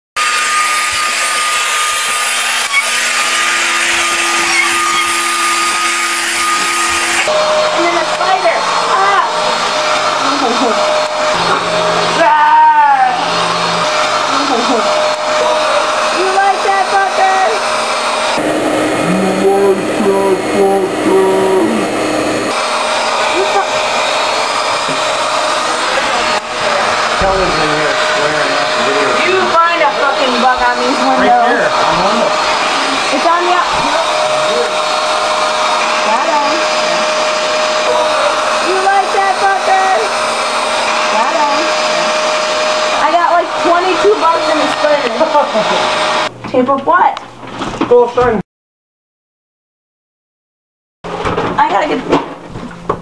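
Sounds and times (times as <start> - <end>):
vacuum cleaner running: 0.2 - 47.1.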